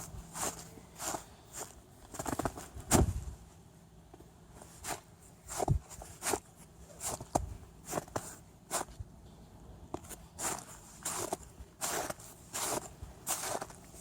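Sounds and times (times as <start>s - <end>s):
footsteps crunching in snow: 0.0s - 3.3s, 4.6s - 9.0s, 10.0s - 14.0s.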